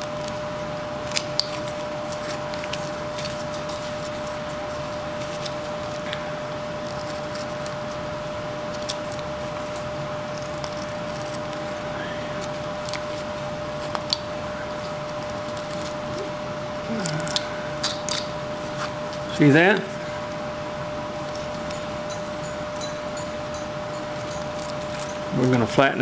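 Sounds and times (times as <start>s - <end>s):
constant hum: 0.0s - 26.0s.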